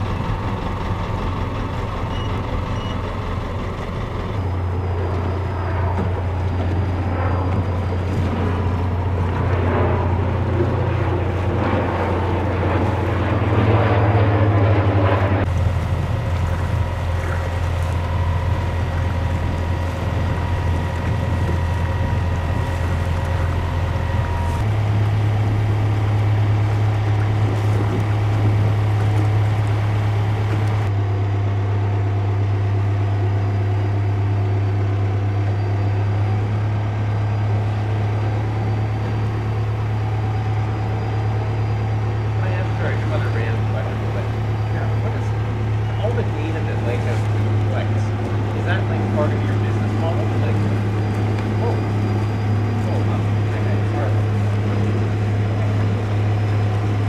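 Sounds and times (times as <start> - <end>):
motorboat engine hum: 0.0 - 57.0
water noise: 0.0 - 57.0
wind: 0.0 - 57.0.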